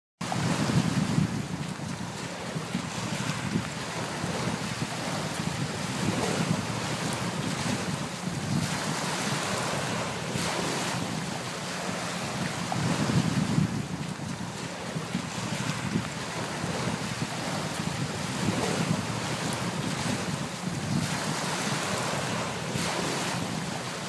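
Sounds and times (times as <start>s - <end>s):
waves lapping on pebbles: 0.2s - 24.0s
wind buffeting microphone: 0.2s - 24.0s.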